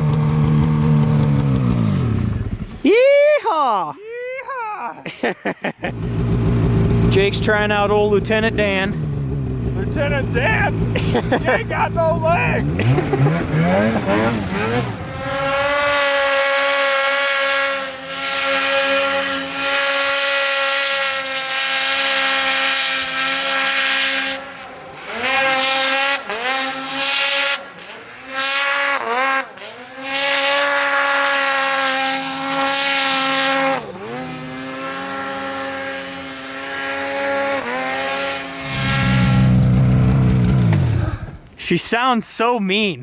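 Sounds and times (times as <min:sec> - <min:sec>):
snowmobile engine revving: 0:00.0 - 0:03.4, 0:05.1 - 0:42.5.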